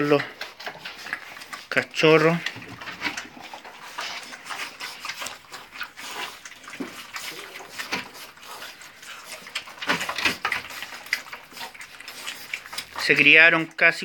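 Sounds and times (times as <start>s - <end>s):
puppies crunching and chewing food: 0.0s - 14.0s.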